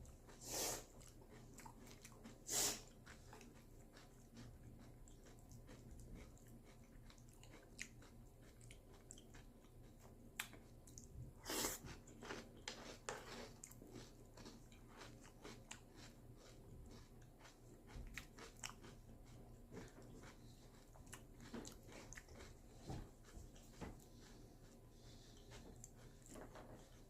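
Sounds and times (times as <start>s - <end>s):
chewing crunchy cereal: 0.0s - 27.0s.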